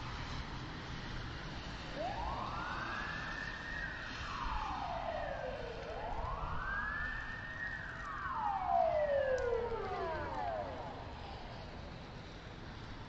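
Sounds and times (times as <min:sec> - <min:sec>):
emergency siren wailing: 0:00.0 - 0:13.0
low traffic rumble: 0:00.0 - 0:13.0.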